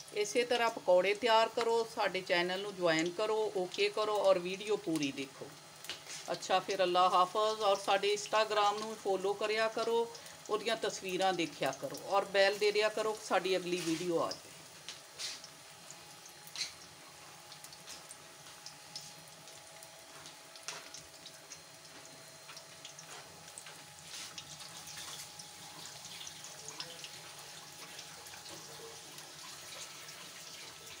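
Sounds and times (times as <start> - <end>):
oil sizzling while deep-frying: 0.0 - 31.0
oil crackling and popping: 2.6 - 31.0.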